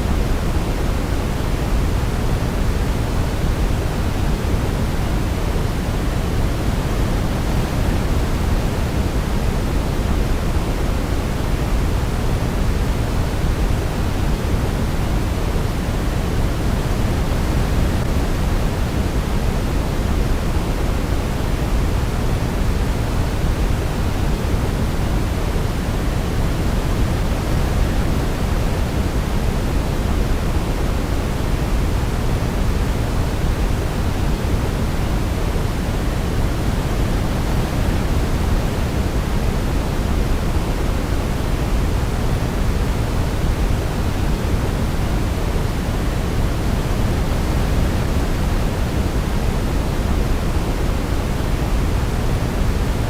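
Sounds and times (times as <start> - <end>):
steady pink noise: 0.0 - 53.0.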